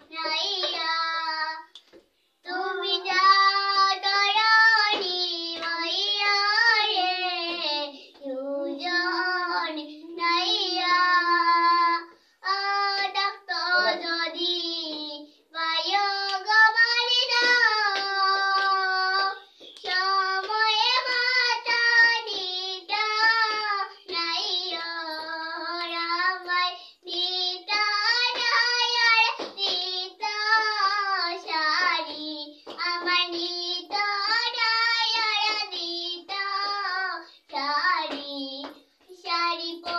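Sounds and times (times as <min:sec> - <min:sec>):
girl singing: 0:00.0 - 0:01.8, 0:02.4 - 0:39.9.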